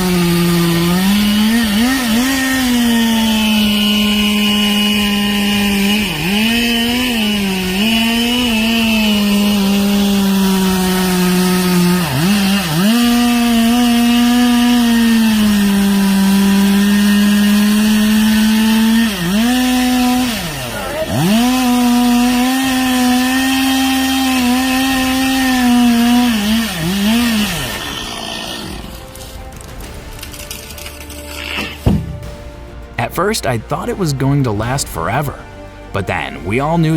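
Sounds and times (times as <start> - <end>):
chainsaw cutting wood: 0.0 - 33.0.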